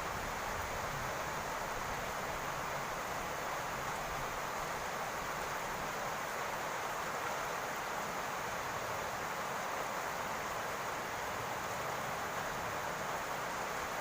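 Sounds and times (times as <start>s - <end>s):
rain falling on a roof: 0.0s - 14.0s.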